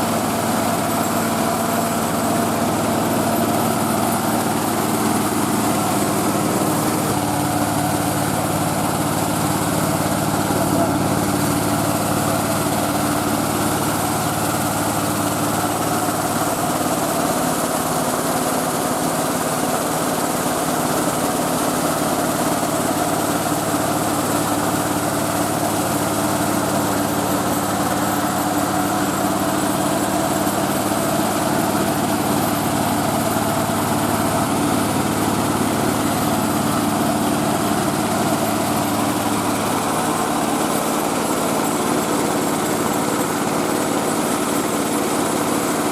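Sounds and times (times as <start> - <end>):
milling machine engine drone: 0.0 - 45.9.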